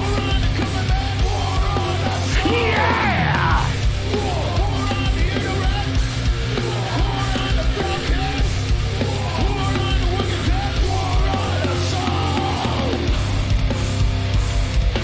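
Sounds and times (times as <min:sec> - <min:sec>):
shouted vocals: 0:00.0 - 0:06.0, 0:06.6 - 0:13.1
bass guitar: 0:00.0 - 0:15.0
distorted electric guitars: 0:00.0 - 0:15.0
drums: 0:00.0 - 0:15.0.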